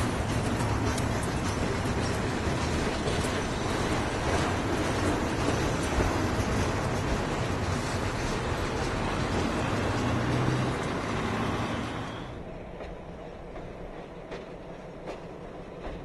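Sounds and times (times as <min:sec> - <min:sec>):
distant train approaching: 0:00.0 - 0:16.0
train wheels rumbling on rail: 0:00.0 - 0:16.0.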